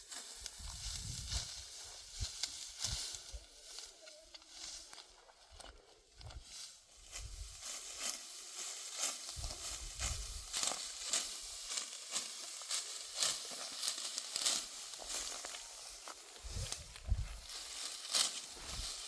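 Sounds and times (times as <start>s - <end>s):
dry stalks crunching and rustling: 0.0s - 19.0s.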